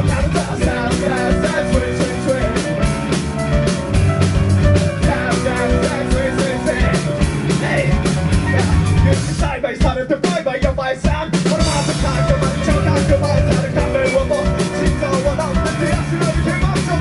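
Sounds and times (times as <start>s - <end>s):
drum kit beat: 0.0s - 17.0s
loud rock music: 0.0s - 17.0s.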